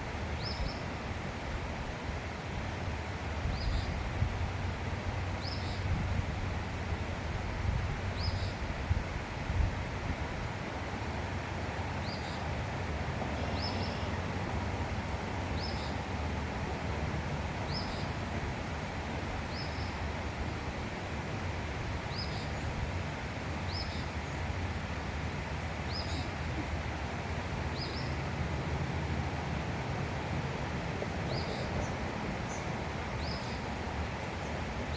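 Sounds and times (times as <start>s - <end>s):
steady rushing outdoor noise: 0.0s - 34.9s.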